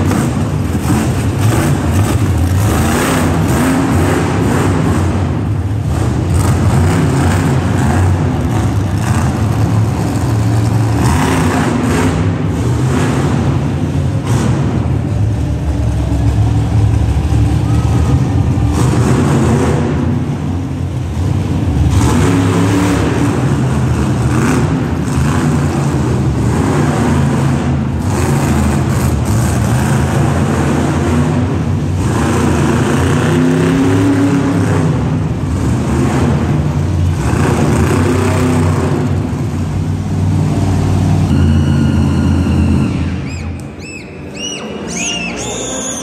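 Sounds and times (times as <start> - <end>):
monster truck engine revving: 0.0 - 46.0.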